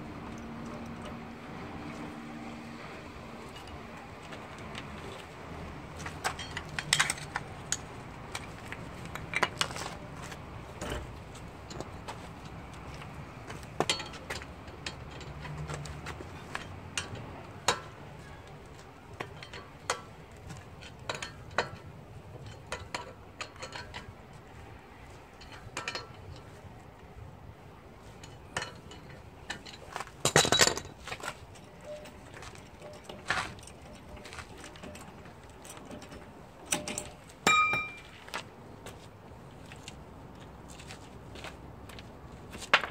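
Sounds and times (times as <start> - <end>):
metal clinks of wheel bolts: 3.4 - 27.3, 27.9 - 38.5.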